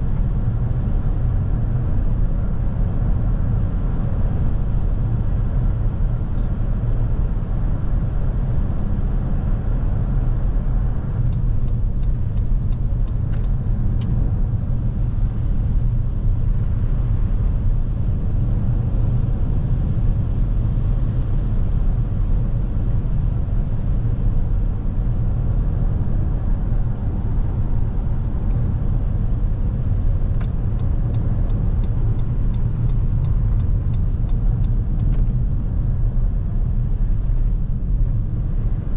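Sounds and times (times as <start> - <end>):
road and tyre rumble in car: 0.0 - 38.9.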